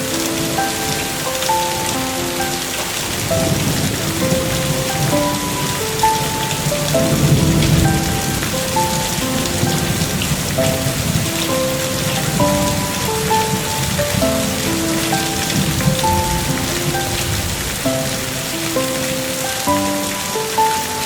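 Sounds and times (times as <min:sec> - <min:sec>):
soft slow melody: 0:00.0 - 0:21.0
steady rain: 0:00.0 - 0:21.0.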